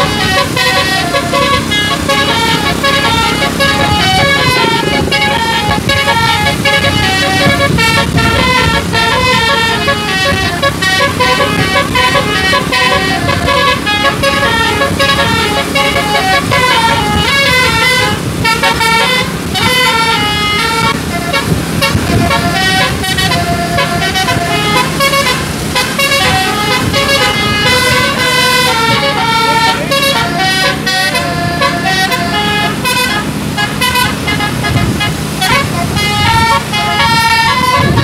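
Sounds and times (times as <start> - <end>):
bus musical air horn tune: 0.0 - 38.0.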